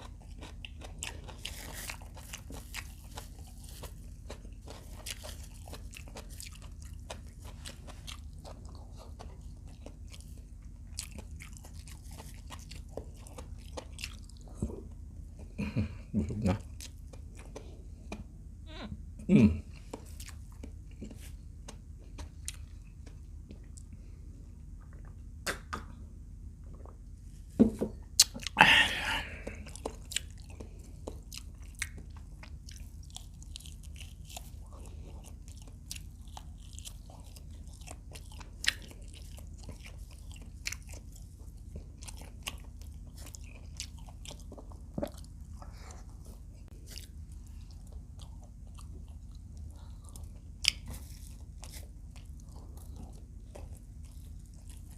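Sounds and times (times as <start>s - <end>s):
chewing and crunching food: 0.0s - 18.6s, 19.4s - 54.9s.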